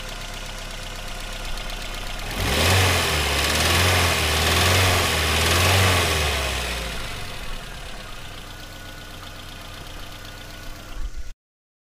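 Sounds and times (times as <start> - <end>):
car engine with ticking lifter: 0.0 - 11.3.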